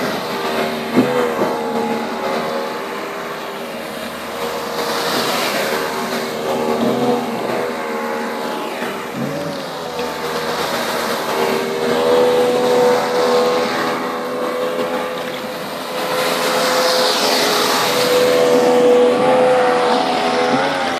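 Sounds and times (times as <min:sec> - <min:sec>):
outboard motor running: 0:00.0 - 0:20.9
rushing hiss: 0:02.0 - 0:20.8.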